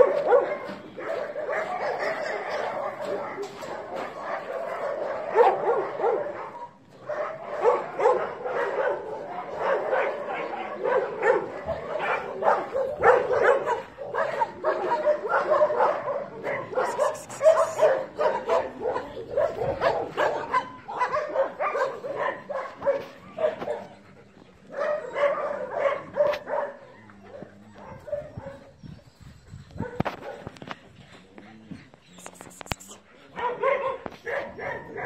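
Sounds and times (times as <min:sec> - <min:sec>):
dogs barking and yipping: 0:00.0 - 0:35.0.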